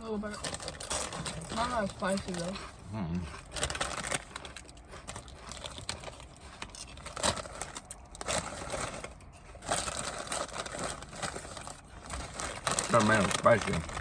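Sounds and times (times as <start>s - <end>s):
crunchy snacks being eaten: 0.3s - 14.0s.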